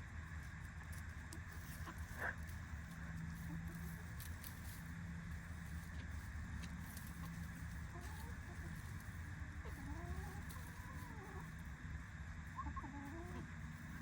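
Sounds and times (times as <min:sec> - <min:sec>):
steady low hum: 0:00.0 - 0:14.0
hens clucking: 0:00.6 - 0:14.0.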